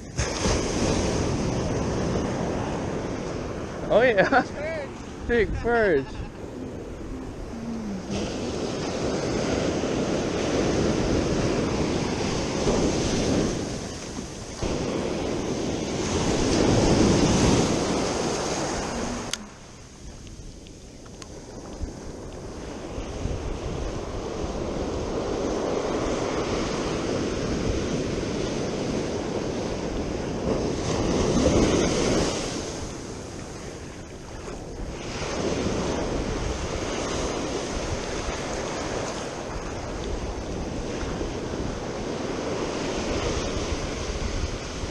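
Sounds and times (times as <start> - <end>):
ocean surf breaking: 0.0 - 44.9
wind on microphone: 0.0 - 44.9.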